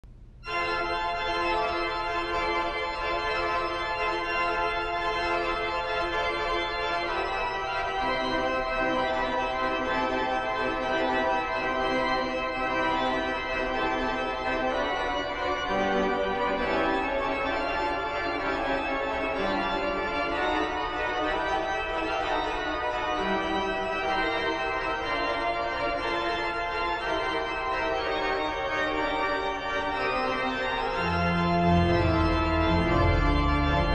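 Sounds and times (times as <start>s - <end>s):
church organ sustained chords: 0.4s - 33.9s.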